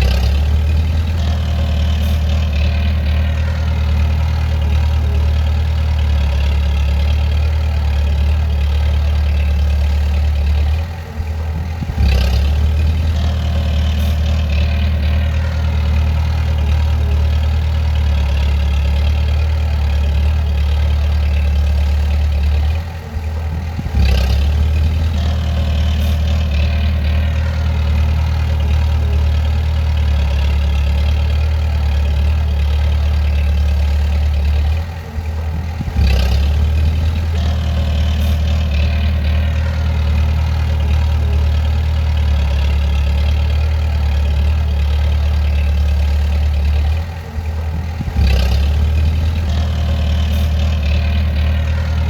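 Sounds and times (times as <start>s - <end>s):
bulldozer diesel engine droning: 0.0s - 52.0s.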